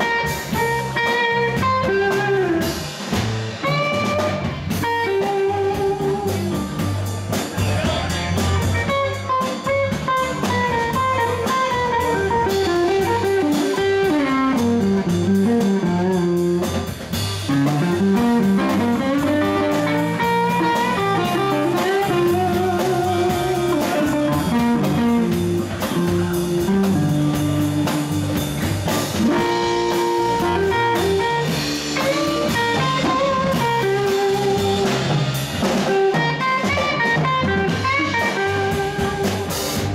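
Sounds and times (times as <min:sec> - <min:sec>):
bass line: 0:00.0 - 0:39.9
drum kit: 0:00.0 - 0:39.9
electric guitar melody: 0:00.0 - 0:39.9.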